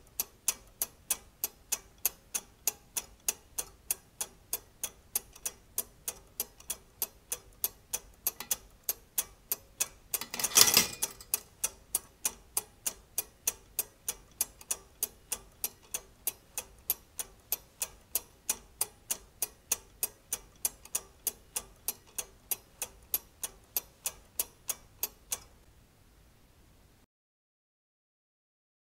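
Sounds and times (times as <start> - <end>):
clockwork ticking: 0.0 - 25.6.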